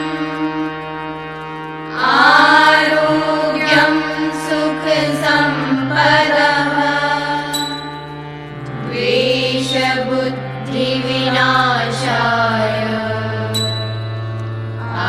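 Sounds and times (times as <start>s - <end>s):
person singing devotional melody: 0.0s - 15.0s
sustained drone: 0.0s - 15.0s.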